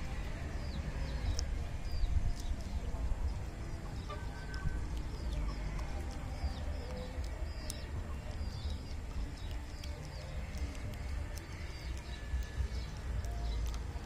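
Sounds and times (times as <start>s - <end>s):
low rumble: 0.0s - 14.0s
small birds chirping: 0.0s - 14.0s
sharp clicks: 0.7s - 14.0s.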